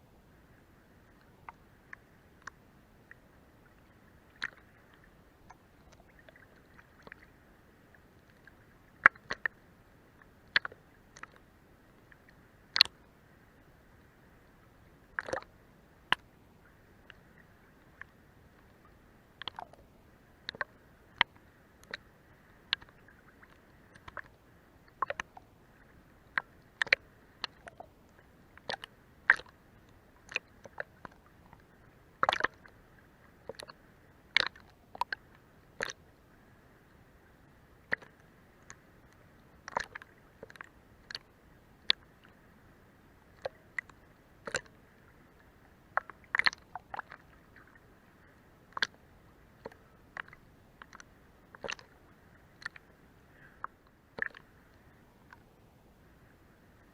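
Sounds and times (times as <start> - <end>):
faint water wash: 0.0 - 56.9
water splashing against hull: 0.4 - 56.9.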